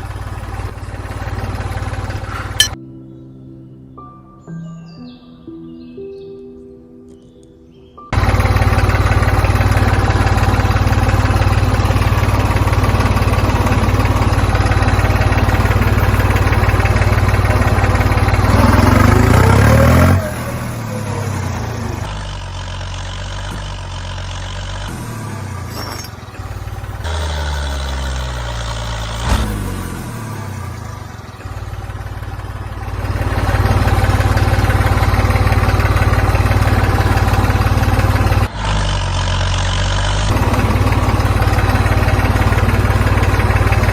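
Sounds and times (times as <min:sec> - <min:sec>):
engine running and revving: 0:00.0 - 0:02.8, 0:08.1 - 0:43.9.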